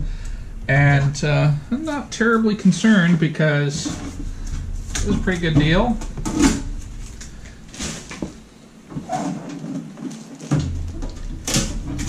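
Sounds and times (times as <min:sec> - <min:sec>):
packing scraping: 0:01.8 - 0:12.0.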